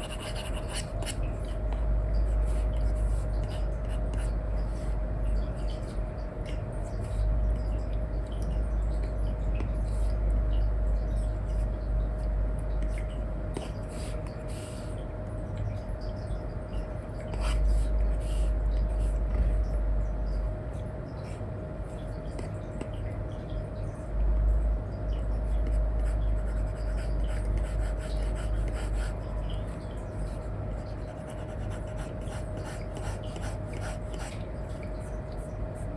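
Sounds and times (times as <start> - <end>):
steady low rumble: 0.0 - 33.4.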